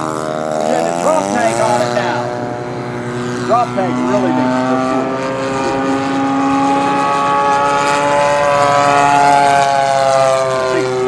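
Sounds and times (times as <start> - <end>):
model airplane engine buzzing: 0.0 - 11.0.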